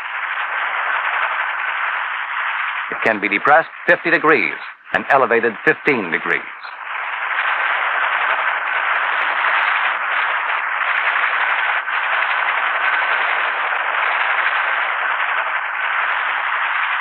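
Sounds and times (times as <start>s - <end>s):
faint steady whine: 0.0s - 17.0s
helicopter rushing noise: 0.0s - 17.0s.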